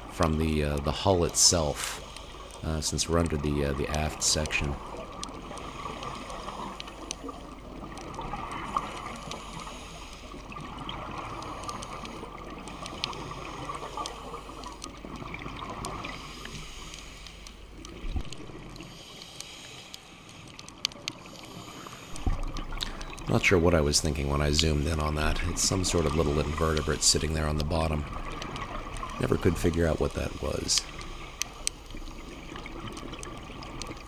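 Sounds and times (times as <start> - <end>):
underwater watery rush: 0.0 - 34.0
small clicks: 0.7 - 34.0.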